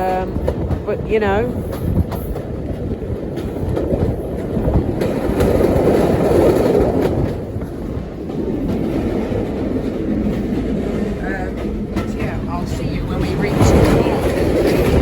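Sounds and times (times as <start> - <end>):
diesel train running on rails: 0.0 - 15.0.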